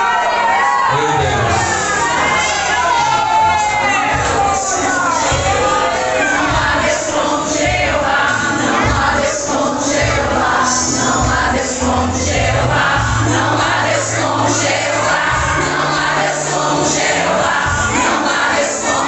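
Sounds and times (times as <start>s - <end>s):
choir singing gospel song: 0.0s - 19.0s
instrumental backing with bass notes: 0.1s - 19.0s.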